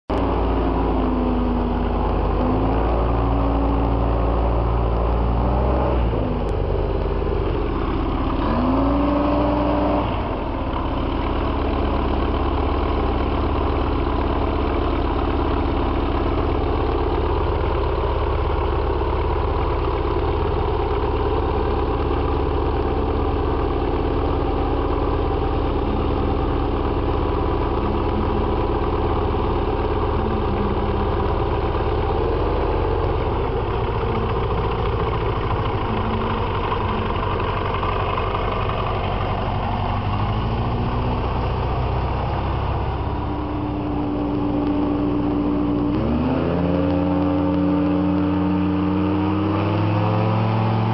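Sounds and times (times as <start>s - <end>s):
propeller plane engine running: 0.1s - 50.9s.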